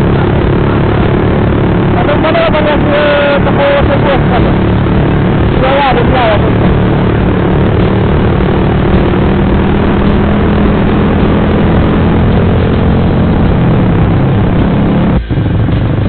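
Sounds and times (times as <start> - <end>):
motorcycle engine drone: 0.0 - 16.0.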